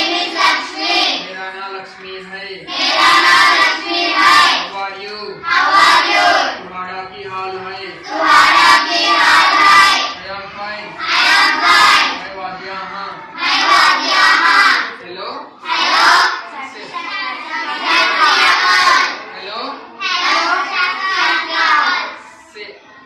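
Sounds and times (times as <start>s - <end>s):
children chanting in unison: 0.0s - 1.4s, 2.6s - 4.8s, 5.4s - 6.8s, 7.5s - 15.0s, 15.6s - 23.0s.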